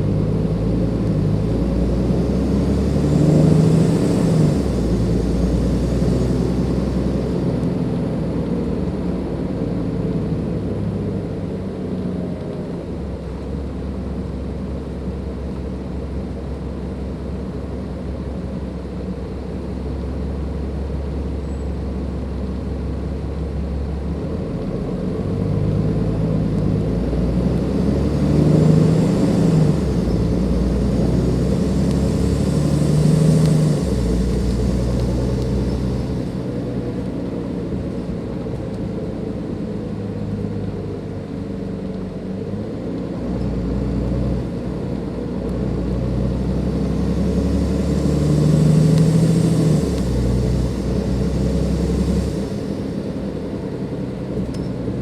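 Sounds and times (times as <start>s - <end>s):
bus diesel engine pulling: 0.0s - 55.0s.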